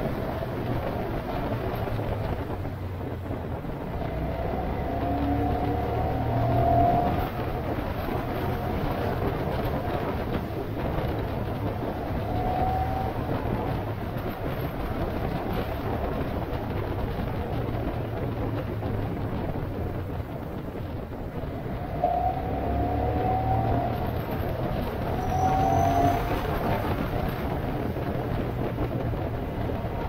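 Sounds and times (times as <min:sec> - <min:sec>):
road and wind noise: 0:00.0 - 0:30.0
vehicle engine running: 0:00.0 - 0:30.0.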